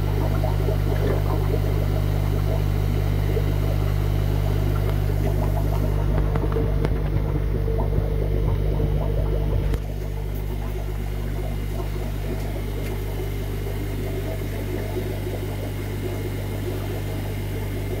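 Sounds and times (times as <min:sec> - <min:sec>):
aquarium equipment humming: 0:00.0 - 0:18.0.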